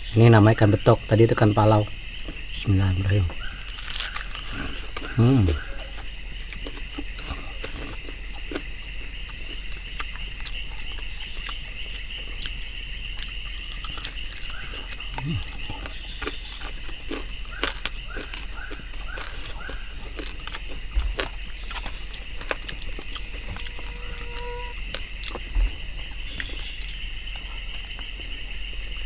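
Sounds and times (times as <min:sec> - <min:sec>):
insect drone: 0:00.0 - 0:29.0
insects chirping: 0:00.0 - 0:29.0.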